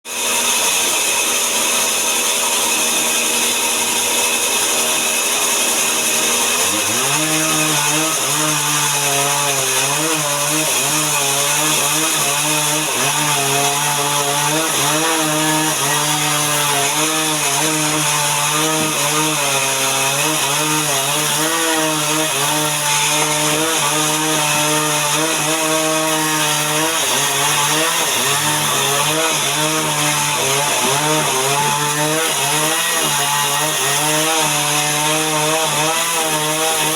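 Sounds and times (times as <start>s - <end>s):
chainsaw cutting timber: 0.0s - 36.9s.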